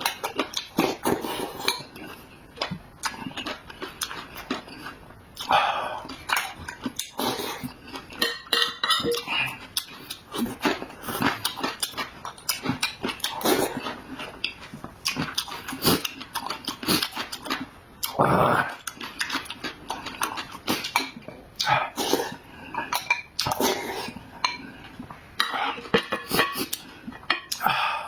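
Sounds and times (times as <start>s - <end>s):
wet chewing and slurping: 0.0s - 27.6s.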